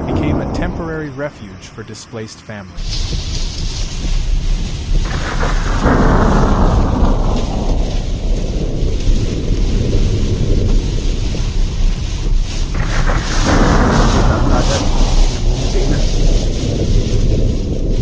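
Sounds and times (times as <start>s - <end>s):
strong wind: 0.0s - 1.8s, 2.7s - 18.0s
deep rumble: 0.0s - 2.0s, 2.8s - 18.0s
heavy rain: 0.0s - 18.0s.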